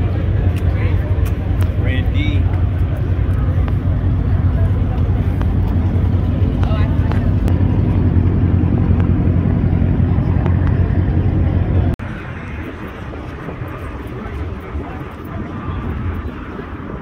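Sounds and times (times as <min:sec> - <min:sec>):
car engine idling: 0:00.0 - 0:16.9
outdoor background noise: 0:00.0 - 0:17.0.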